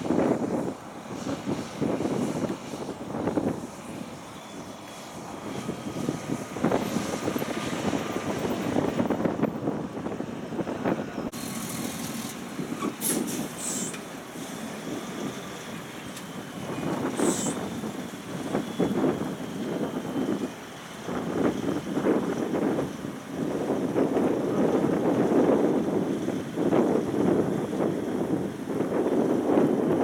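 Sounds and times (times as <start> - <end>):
heavy truck passing: 0.0 - 29.2.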